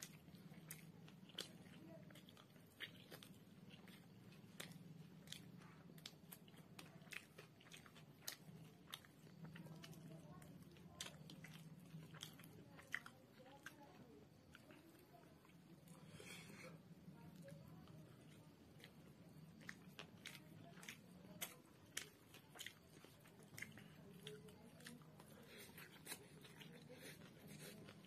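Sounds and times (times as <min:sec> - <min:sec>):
chewing with crunches: 0:00.0 - 0:28.0
low steady hum: 0:00.0 - 0:28.0.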